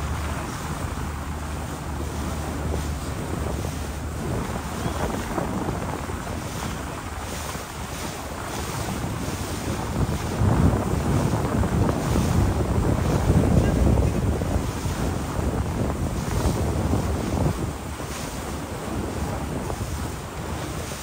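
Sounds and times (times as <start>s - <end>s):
boat rushing through water: 0.0s - 21.0s
wind buffeting microphone: 0.0s - 21.0s.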